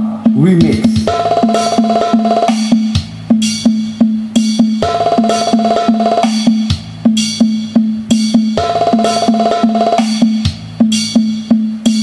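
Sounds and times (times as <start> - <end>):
fast drum beat: 0.0 - 12.0
remix music over loudspeakers: 0.0 - 12.0.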